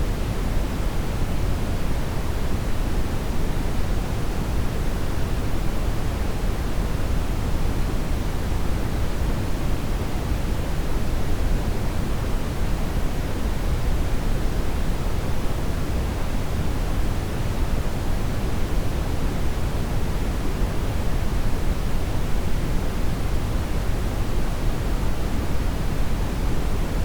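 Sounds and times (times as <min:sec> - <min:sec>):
brown noise hiss: 0:00.0 - 0:27.0.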